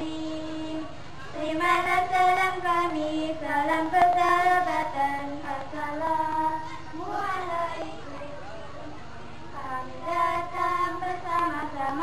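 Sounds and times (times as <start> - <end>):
children singing together: 0.0 - 8.6, 9.6 - 12.0.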